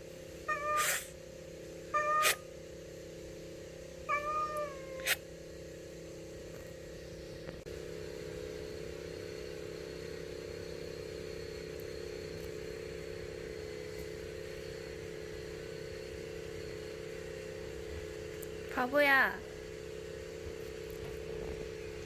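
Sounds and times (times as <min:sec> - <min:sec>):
mechanical hum with tones: 0:00.0 - 0:22.0.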